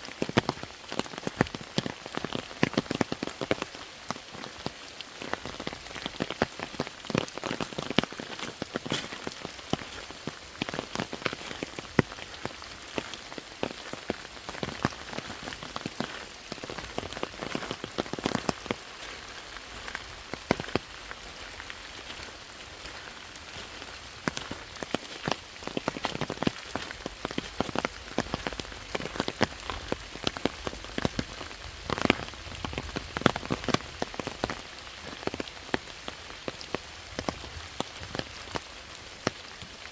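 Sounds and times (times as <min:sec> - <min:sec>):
rain hissing: 0:00.0 - 0:39.9
raindrops tapping: 0:00.0 - 0:39.9.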